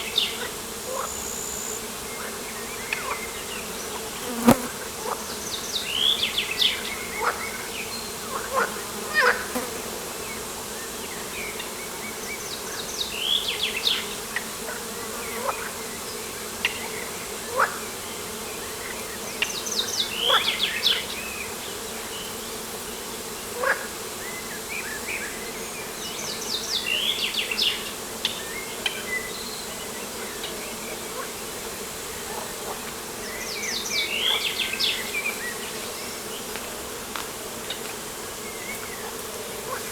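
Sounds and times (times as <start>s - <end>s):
low insect buzzing hum: 0.0s - 39.9s.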